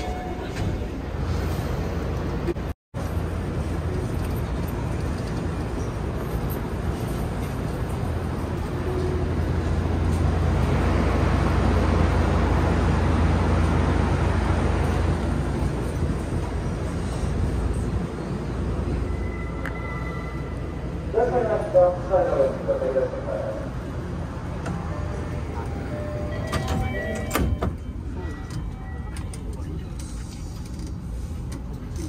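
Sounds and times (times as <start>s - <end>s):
subway train rumbling on track: 0.0s - 32.0s.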